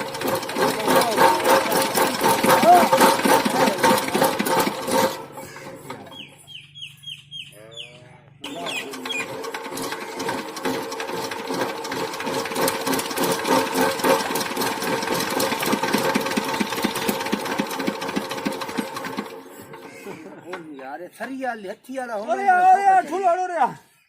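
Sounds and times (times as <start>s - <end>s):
diesel engine clattering: 0.0s - 7.1s, 8.4s - 20.9s.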